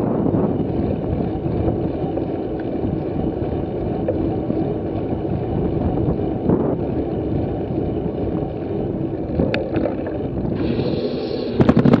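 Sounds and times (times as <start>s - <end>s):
tyres rolling on asphalt: 0.0s - 12.0s
wind on microphone: 0.0s - 12.0s.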